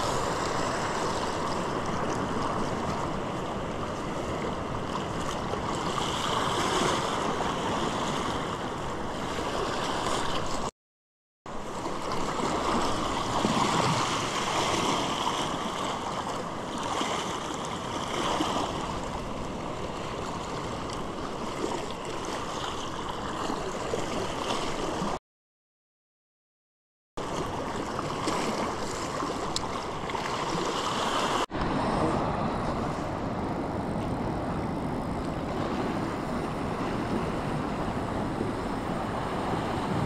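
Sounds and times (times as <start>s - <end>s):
surf washing over rocks: 0.0s - 10.7s, 11.5s - 25.2s, 27.2s - 40.0s.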